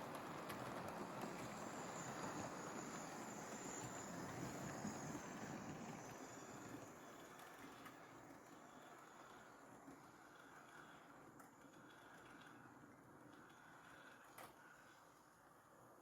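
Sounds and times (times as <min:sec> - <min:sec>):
faint high motor whine: 0:00.0 - 0:16.0.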